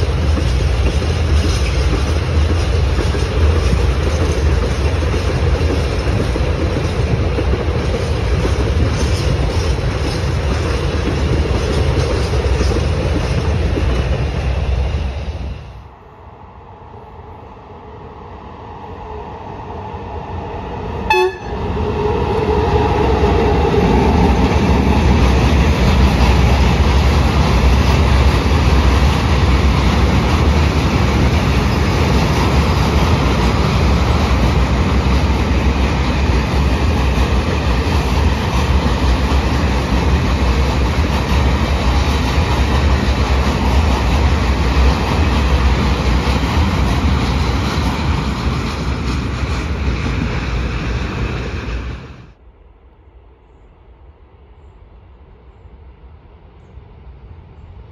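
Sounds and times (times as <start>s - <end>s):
freight train rolling past: 0.0s - 57.9s.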